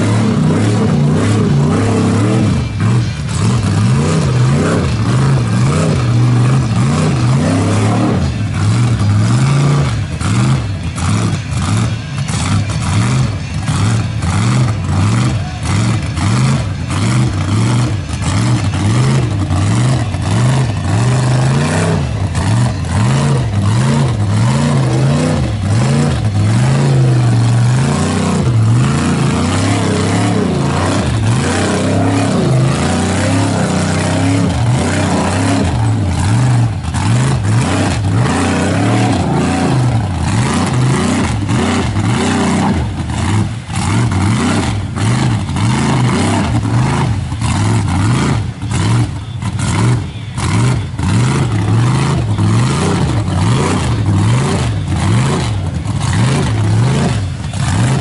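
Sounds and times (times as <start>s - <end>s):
truck engine revving: 0.0s - 58.0s
tyres churning through mud: 0.0s - 58.0s.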